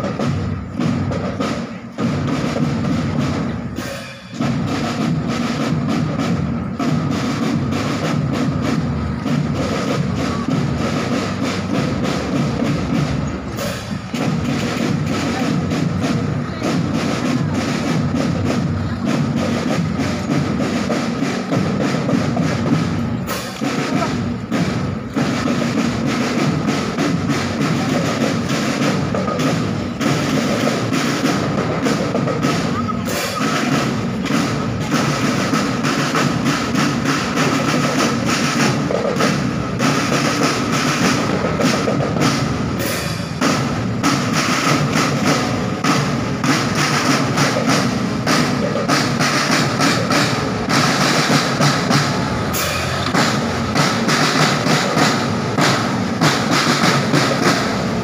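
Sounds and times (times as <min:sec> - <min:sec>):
marching drum band: 0:00.0 - 0:58.0.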